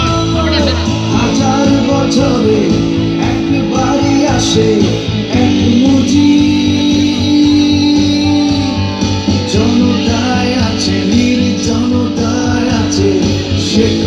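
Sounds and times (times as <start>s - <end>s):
live band music: 0.0s - 14.0s
regular drum beat: 0.0s - 14.0s.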